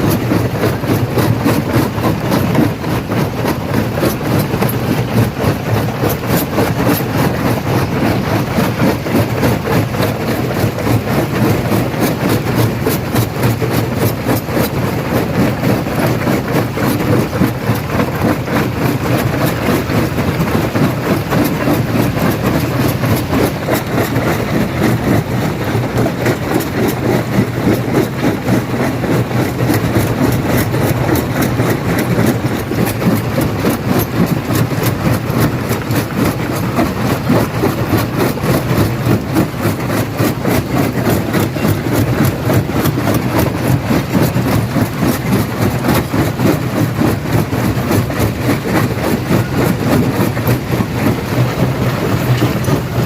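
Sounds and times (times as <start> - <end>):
stone crusher machine drone: 0.0 - 53.0.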